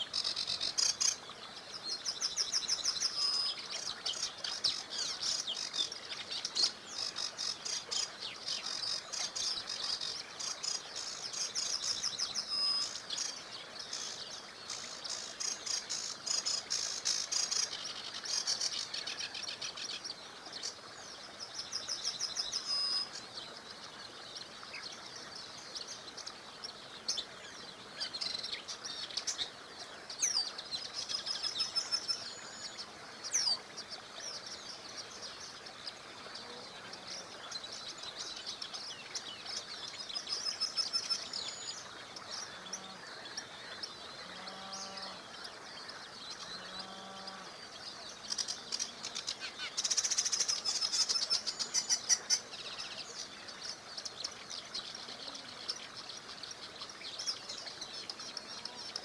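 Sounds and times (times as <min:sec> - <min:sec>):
small river rushing: 0:00.0 - 0:59.0
songbirds trilling and chirping: 0:00.0 - 0:59.0.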